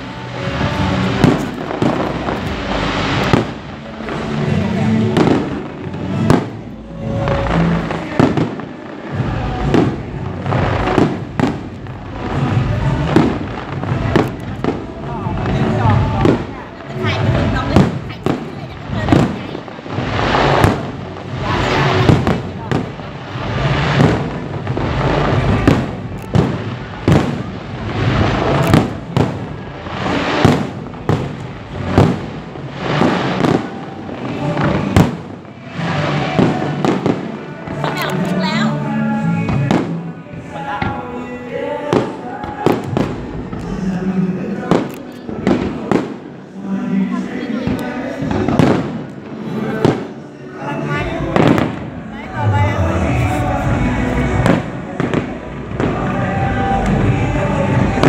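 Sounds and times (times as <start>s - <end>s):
fireworks bangs: 0.0s - 58.0s
fireworks crackling: 0.0s - 58.0s
music playing: 0.0s - 58.0s.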